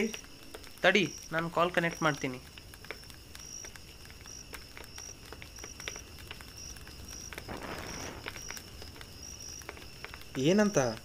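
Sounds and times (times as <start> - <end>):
crickets chirping: 0.0 - 11.0
small clicks: 0.0 - 11.0.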